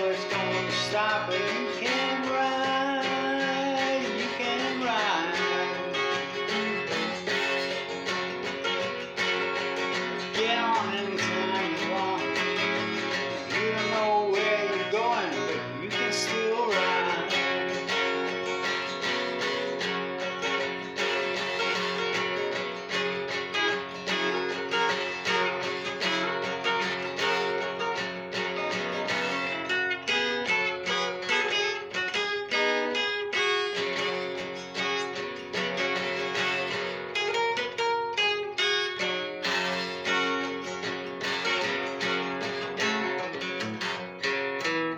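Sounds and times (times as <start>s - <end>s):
acoustic guitar picking: 0.0s - 44.9s.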